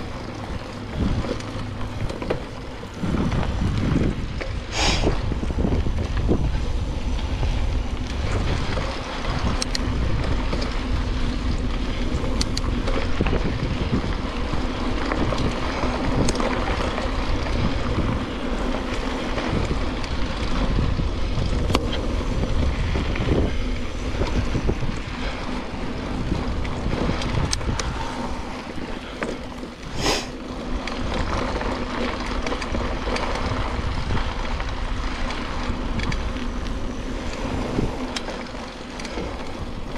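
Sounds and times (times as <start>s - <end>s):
bike clicks and knocks: 0.0s - 39.9s
bike tyres on dirt: 0.0s - 39.9s
wind buffeting camera: 0.0s - 39.9s.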